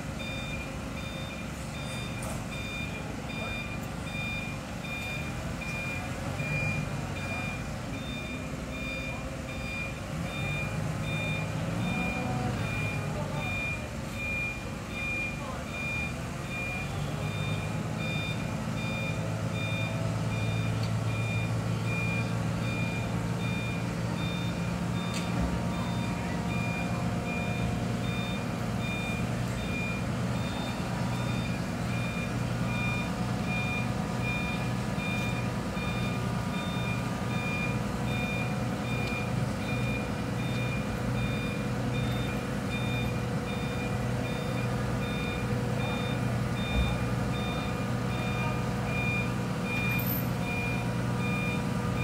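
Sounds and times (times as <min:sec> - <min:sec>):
forklift engine running: 0:00.0 - 0:52.0
reversing alarm beeping: 0:00.2 - 0:52.0.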